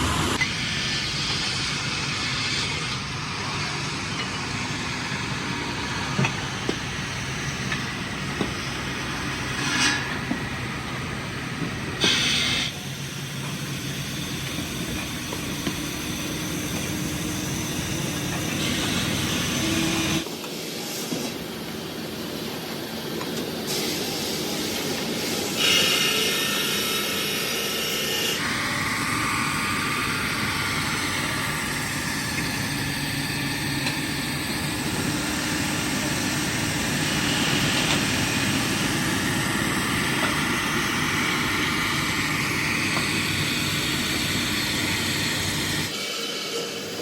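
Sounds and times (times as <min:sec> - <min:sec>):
heavy machinery running: 0:00.0 - 0:20.3, 0:24.4 - 0:47.0.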